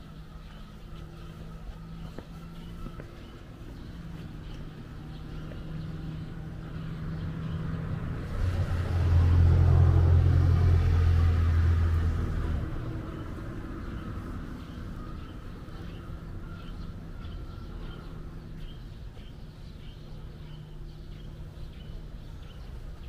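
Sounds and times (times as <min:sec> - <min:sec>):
vehicle engine passing by: 0:00.0 - 0:23.0.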